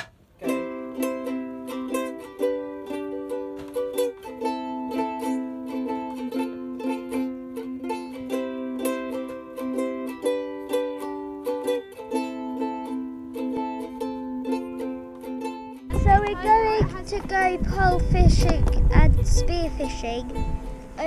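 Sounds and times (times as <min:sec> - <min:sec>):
ukulele strumming: 0:00.0 - 0:21.0.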